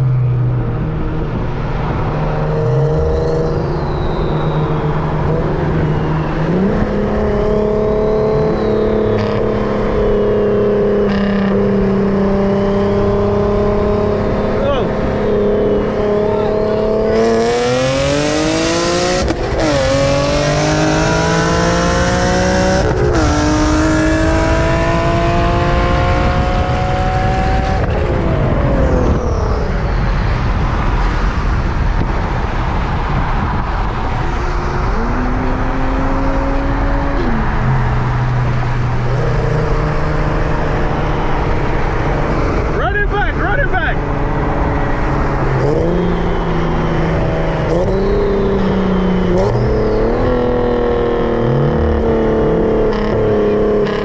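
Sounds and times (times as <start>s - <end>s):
car engine revving at full throttle: 0.0s - 54.0s.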